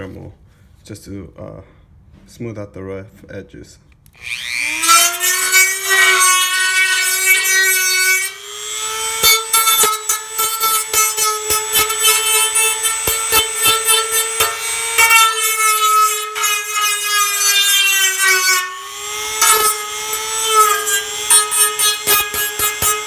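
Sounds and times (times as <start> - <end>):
rotary tool whining: 4.1 - 23.0.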